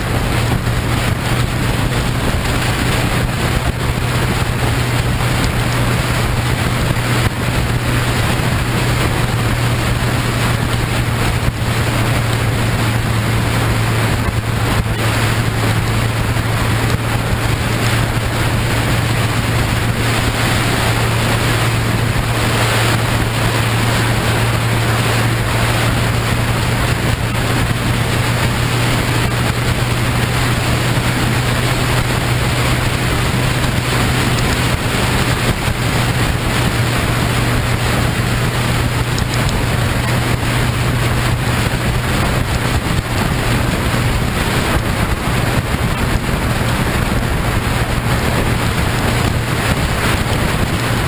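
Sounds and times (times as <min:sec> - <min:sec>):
low engine hum: 0:00.0 - 0:51.0
wind rushing over microphone: 0:00.0 - 0:51.0.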